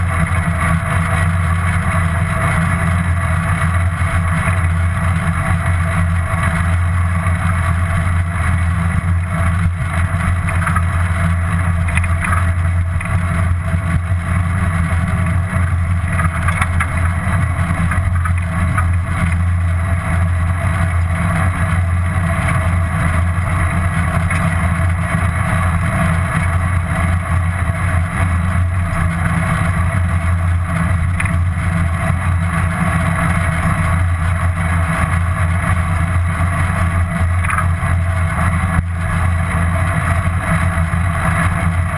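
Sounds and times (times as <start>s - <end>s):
wind and road noise rumble: 0.0s - 41.9s.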